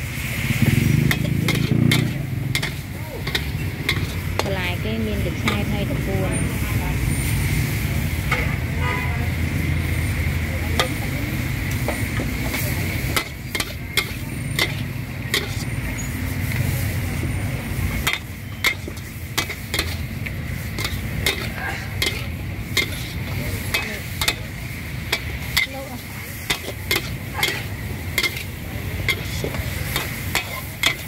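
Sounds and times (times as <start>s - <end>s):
food sizzling in a pan: 0.0s - 31.0s
metal spatula scraping a wok: 0.5s - 8.6s, 11.6s - 31.0s.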